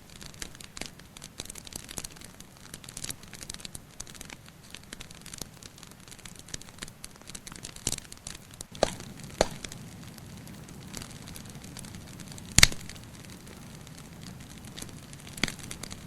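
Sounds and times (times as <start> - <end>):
soft steady hiss: 0.0 - 16.0
wood fire crackling: 0.0 - 16.0.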